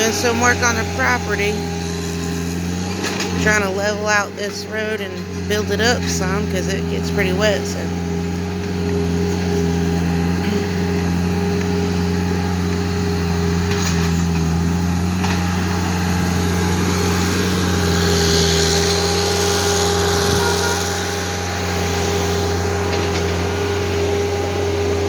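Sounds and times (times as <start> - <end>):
skid steer engine running: 0.0 - 25.0.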